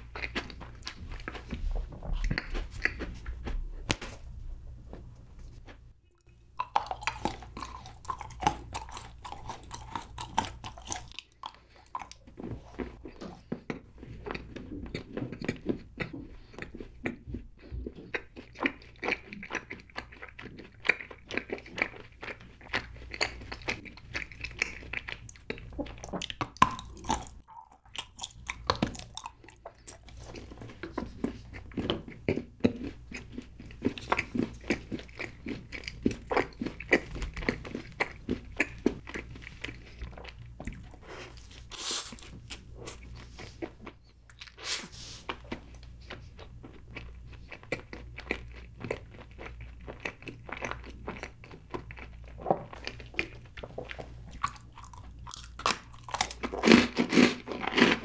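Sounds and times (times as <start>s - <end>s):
chocolate crunching and chewing: 0.0s - 1.6s, 2.2s - 3.5s, 6.2s - 44.6s, 45.2s - 58.0s.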